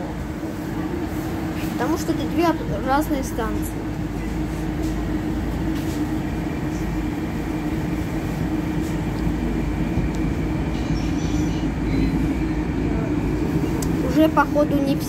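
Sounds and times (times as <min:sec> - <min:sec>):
train hum and rumble: 0:00.0 - 0:15.0.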